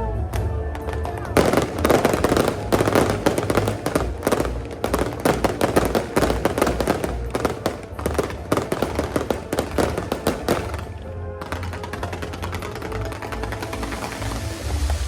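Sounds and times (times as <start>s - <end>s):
firecrackers crackling: 0.0s - 15.0s
music: 0.0s - 15.0s.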